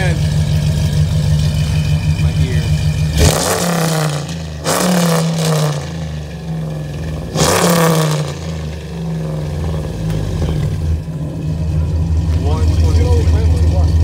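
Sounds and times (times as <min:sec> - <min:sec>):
engine revving from idle: 0:00.0 - 0:14.0.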